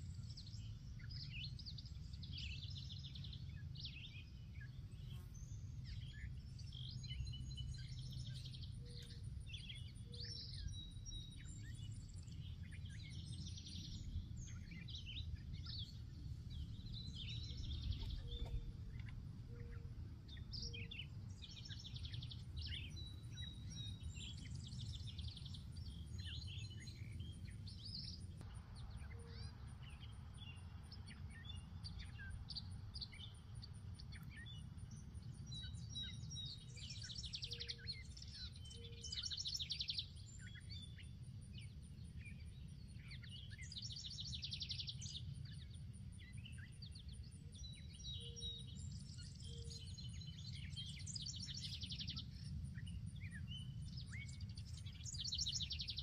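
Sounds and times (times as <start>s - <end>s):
low rumble of breeze: 0.0s - 56.0s
songbirds chirping and singing: 0.0s - 56.0s.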